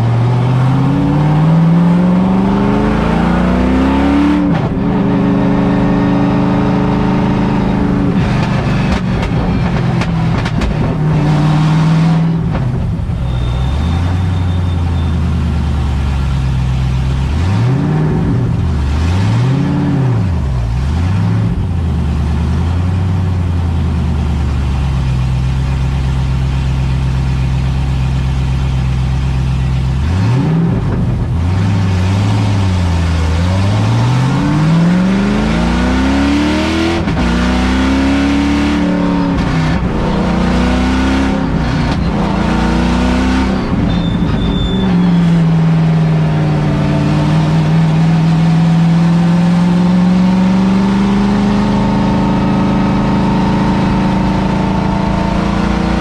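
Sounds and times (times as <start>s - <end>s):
race car engine revving: 0.0s - 24.4s, 29.1s - 56.0s.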